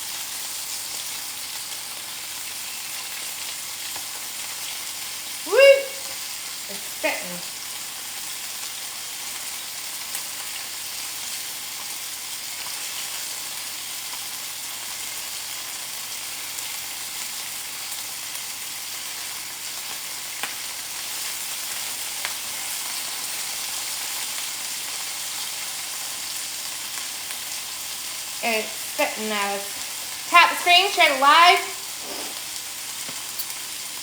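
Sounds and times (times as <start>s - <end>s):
oil sizzling in a skillet: 0.0s - 34.0s.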